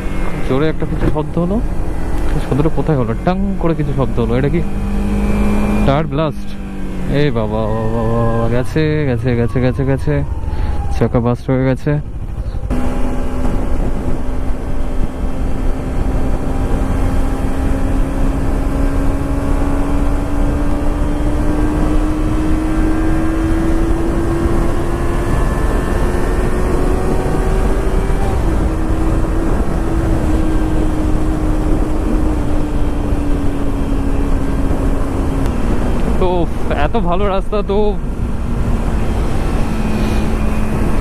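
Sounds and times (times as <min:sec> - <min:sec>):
motorcycle engine cruising: 0:00.0 - 0:41.0
wind and road noise: 0:00.0 - 0:41.0.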